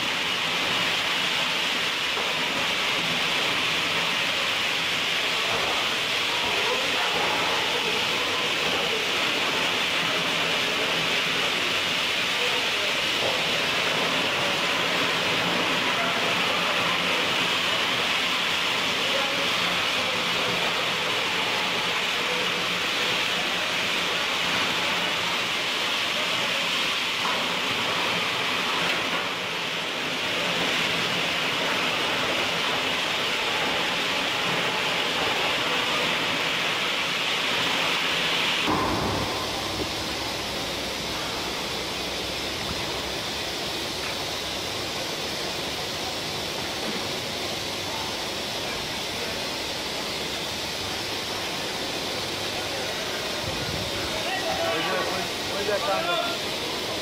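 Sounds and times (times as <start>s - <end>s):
factory machinery roar: 0.0s - 57.0s.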